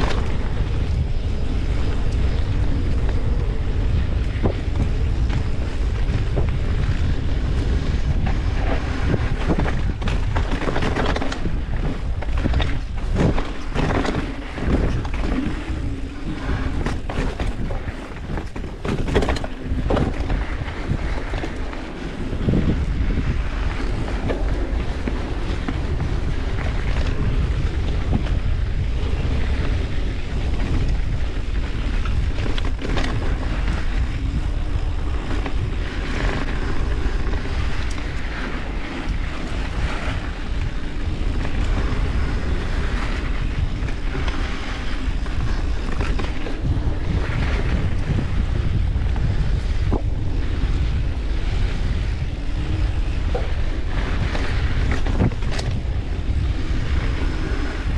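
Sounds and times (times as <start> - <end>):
bike tyres rumbling on rough ground: 0.0 - 57.9
wind buffeting microphone: 0.0 - 57.9.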